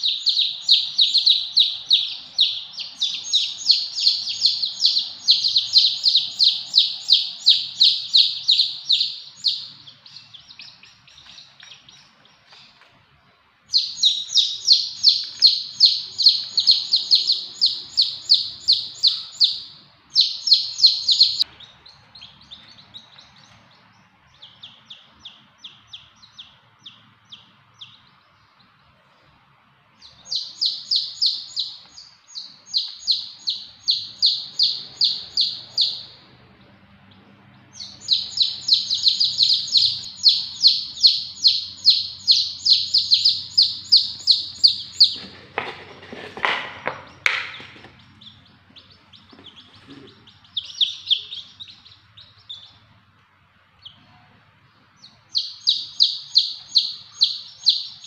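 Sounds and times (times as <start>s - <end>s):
baby chicks peeping: 0.0s - 58.0s.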